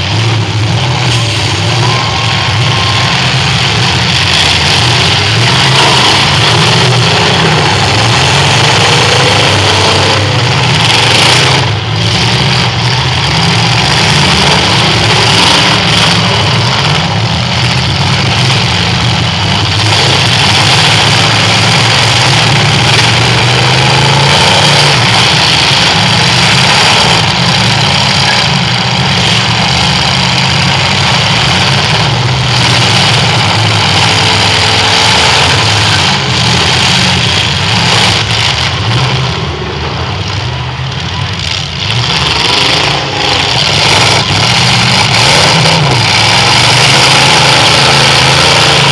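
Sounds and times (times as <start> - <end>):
car engines revving hard: 0.0 - 48.9.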